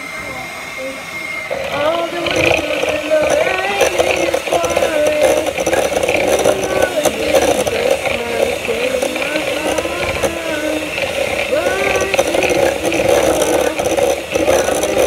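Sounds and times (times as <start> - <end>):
electric mixer running: 0.0 - 15.0
person singing: 1.7 - 15.0.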